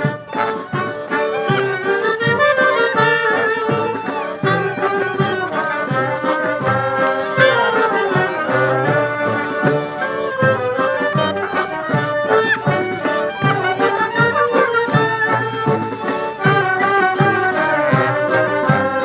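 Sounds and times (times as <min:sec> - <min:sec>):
klezmer band playing: 0:00.0 - 0:19.0.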